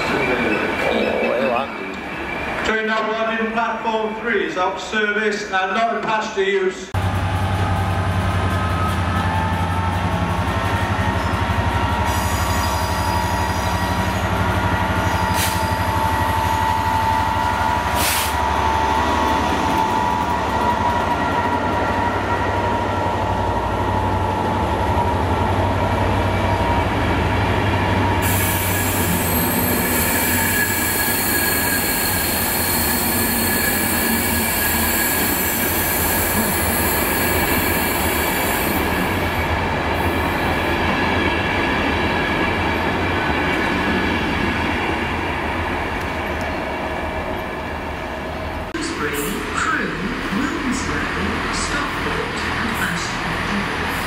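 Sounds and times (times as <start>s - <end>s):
diesel locomotive engine rumble: 0.0s - 2.7s, 6.9s - 54.0s
train wheels rolling on rail: 0.0s - 3.6s, 7.0s - 54.0s.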